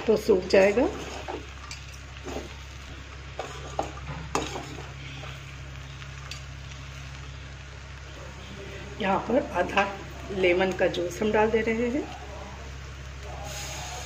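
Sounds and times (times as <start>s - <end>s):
food sizzling faintly: 0.0s - 14.0s.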